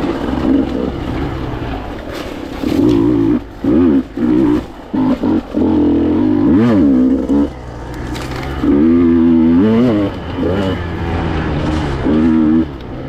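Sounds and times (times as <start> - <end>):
two-stroke engine revving hard: 0.0 - 13.0.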